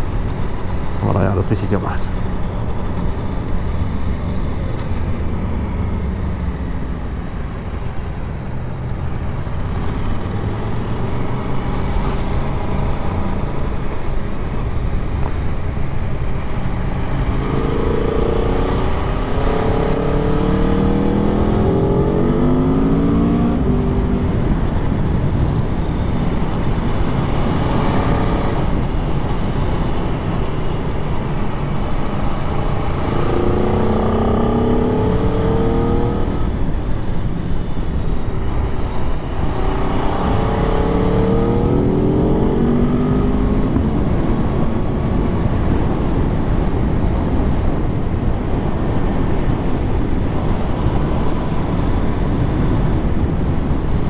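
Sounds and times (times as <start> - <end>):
wind rush: 7.0 - 54.0.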